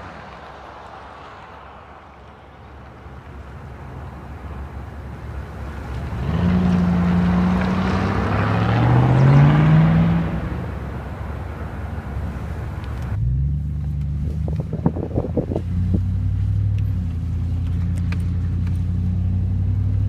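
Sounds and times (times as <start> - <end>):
truck accelerating hard: 0.0 - 20.0.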